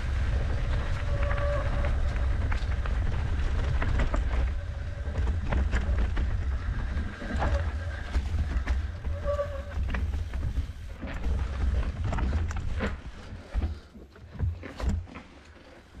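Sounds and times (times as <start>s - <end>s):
wind rumbling on microphone: 0.0s - 15.1s
bike rattling and clicking: 0.0s - 15.8s
tyres rolling over leaves and dirt: 0.0s - 16.0s.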